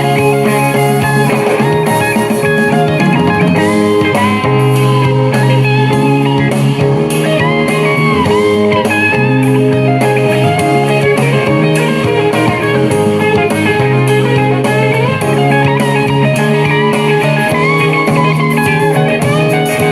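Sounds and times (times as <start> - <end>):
bluesy electric guitar lead: 0.0 - 19.9
sustained bass line: 0.0 - 19.9.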